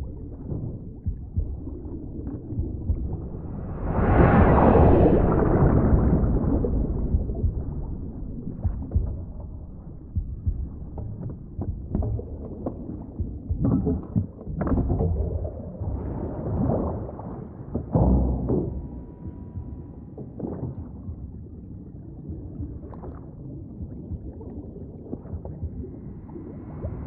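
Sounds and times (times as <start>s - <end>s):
muffled underwater rumble: 0.0s - 27.0s.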